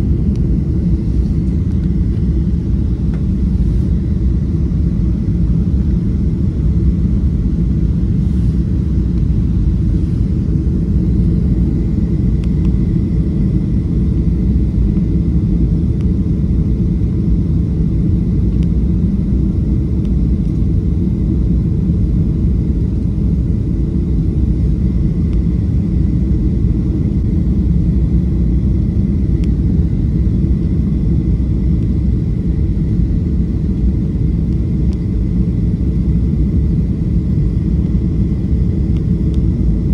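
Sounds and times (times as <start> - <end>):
airplane cabin roar: 0.0 - 39.9
faint high whine: 0.0 - 39.9.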